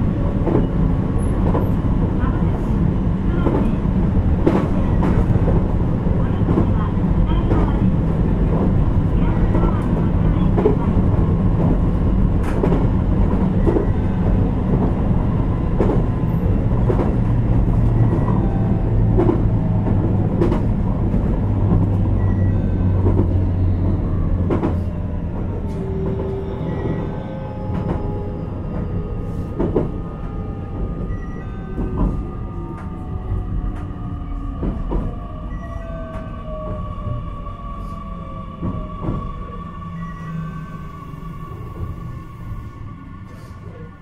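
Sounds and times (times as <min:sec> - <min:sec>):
train rumble from inside: 0:00.0 - 0:44.0.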